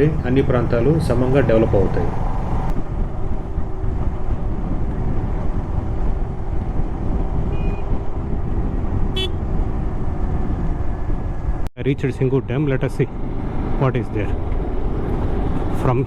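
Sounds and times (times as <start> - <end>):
road noise rumble: 0.0 - 16.0.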